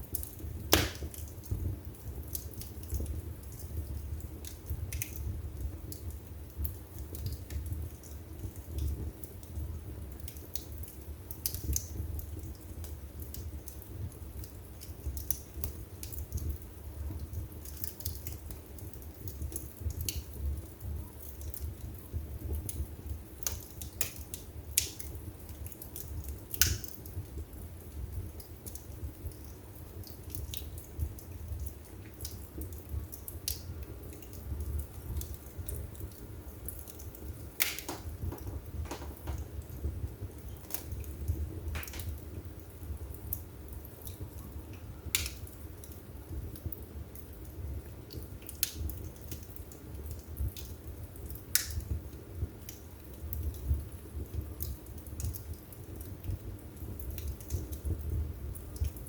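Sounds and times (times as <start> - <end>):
low rumble of flames: 0.0 - 59.0
wood crackling and popping: 0.0 - 59.0.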